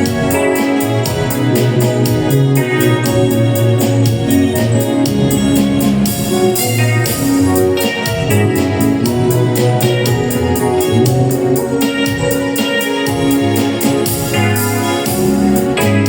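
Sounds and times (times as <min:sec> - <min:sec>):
music with held chords and beat: 0:00.0 - 0:16.0.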